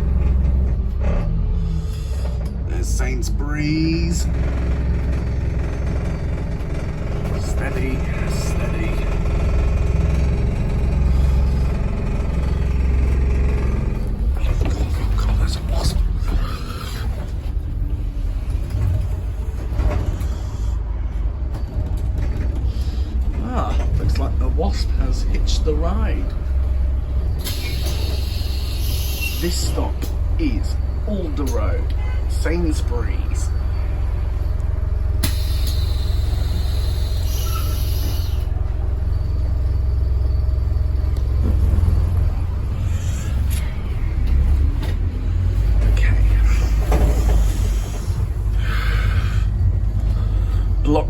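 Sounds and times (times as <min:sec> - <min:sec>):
bus engine rumble: 0:00.0 - 0:51.0.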